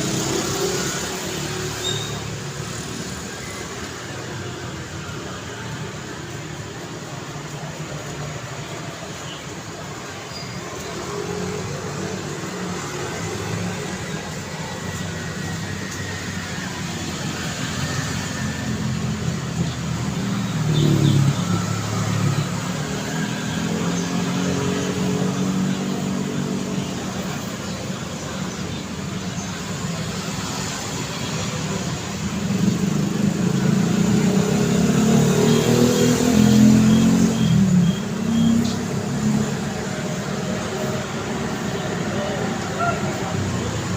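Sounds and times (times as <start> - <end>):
cars passing: 0.0 - 43.9
traffic hum: 0.0 - 43.9.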